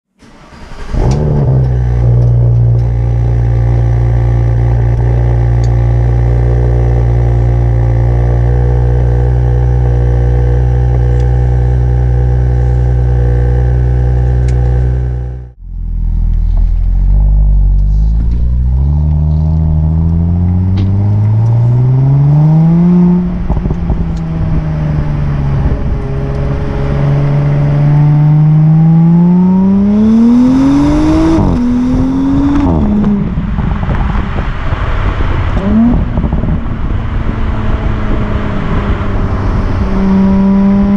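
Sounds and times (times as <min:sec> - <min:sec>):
car engine and exhaust accelerating: 0:00.2 - 0:40.9.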